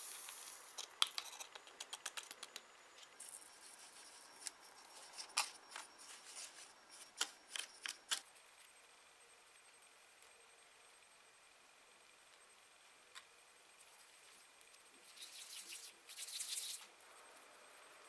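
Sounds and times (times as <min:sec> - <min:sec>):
powder pouring with soft hiss: 0:00.0 - 0:07.2, 0:08.2 - 0:18.0.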